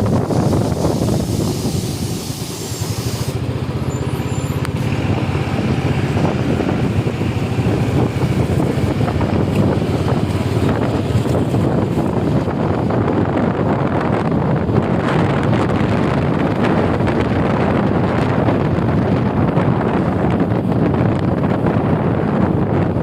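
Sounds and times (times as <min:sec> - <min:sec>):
vehicle rumbling on road: 0:00.0 - 0:23.0
wind buffeting microphone: 0:00.0 - 0:23.0.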